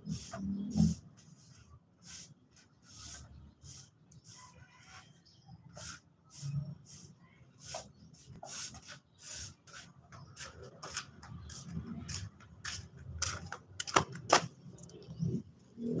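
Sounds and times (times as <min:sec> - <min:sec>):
broom sweeping concrete floor: 0:00.0 - 0:13.4.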